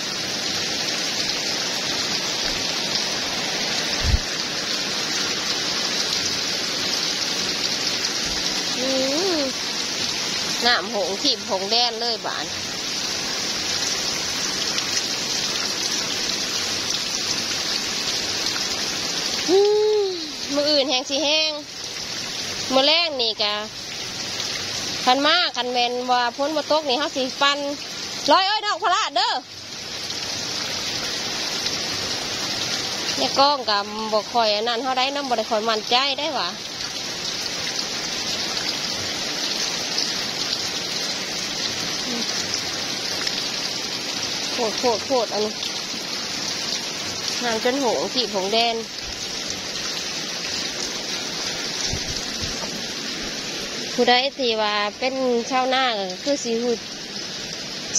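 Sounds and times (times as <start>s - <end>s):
heavy rain on grass and puddles: 0.0s - 57.9s.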